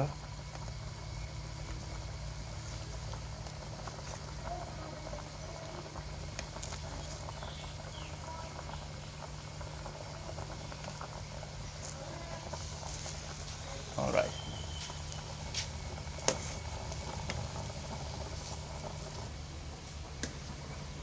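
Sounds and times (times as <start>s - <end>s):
soup bubbling in a pot: 0.0s - 21.0s.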